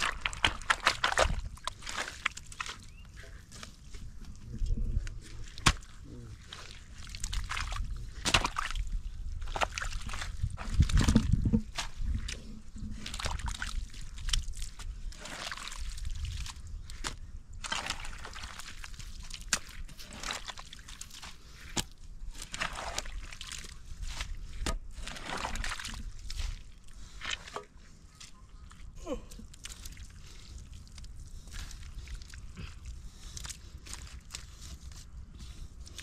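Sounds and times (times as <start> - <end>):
mud and water sloshing: 0.0 - 36.0.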